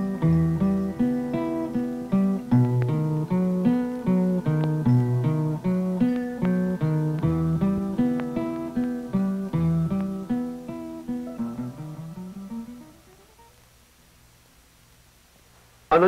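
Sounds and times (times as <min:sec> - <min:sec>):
guitar picking single notes: 0:00.0 - 0:13.6.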